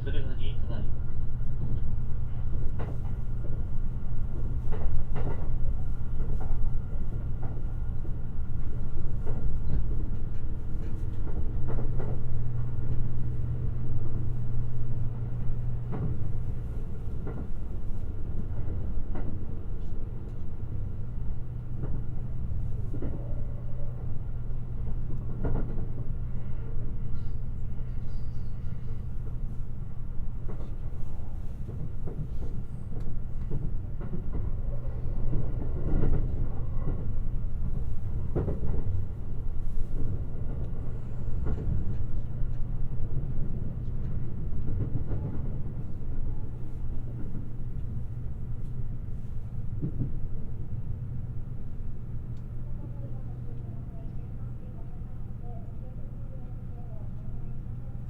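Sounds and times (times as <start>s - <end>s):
train rumble inside car: 0.0s - 58.0s.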